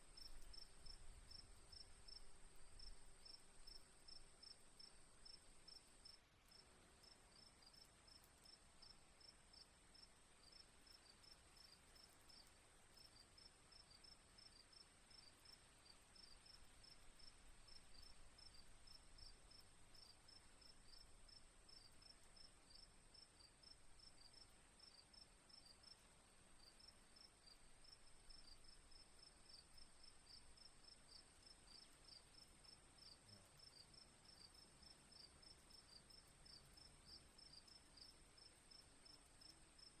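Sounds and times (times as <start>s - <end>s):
cricket chirping: 0.0s - 40.0s.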